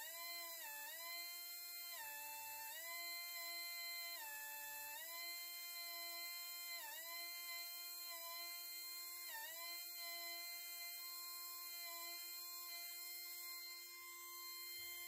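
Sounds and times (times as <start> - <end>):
die grinder high whine: 0.0 - 15.0.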